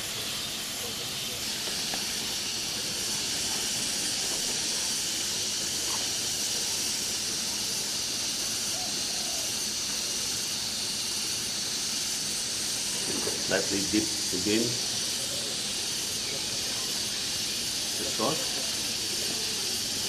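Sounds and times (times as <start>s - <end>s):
skewers sizzling on a grill: 0.0s - 20.0s.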